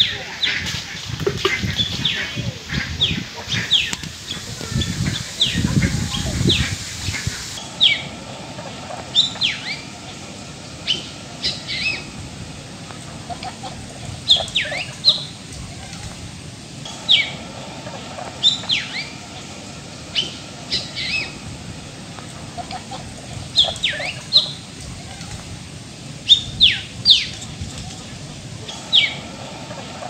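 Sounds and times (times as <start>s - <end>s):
birds chirping: 0.0s - 12.2s, 13.0s - 21.5s, 22.3s - 25.3s, 26.2s - 30.0s.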